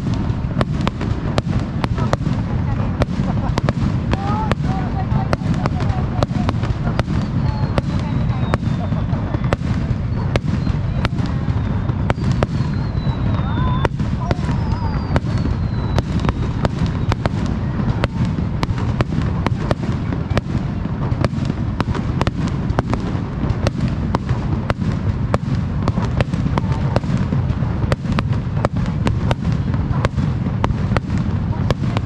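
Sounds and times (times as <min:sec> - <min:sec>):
deep rumble: 0:00.0 - 0:32.0
fireworks bursting: 0:00.0 - 0:32.0.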